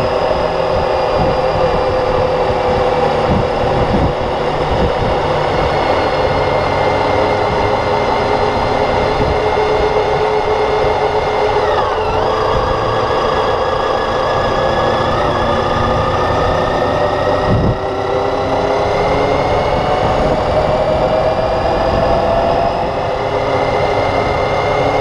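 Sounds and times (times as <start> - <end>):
motorcycle engine running: 0.0 - 25.0
steady rushing noise: 0.0 - 25.0.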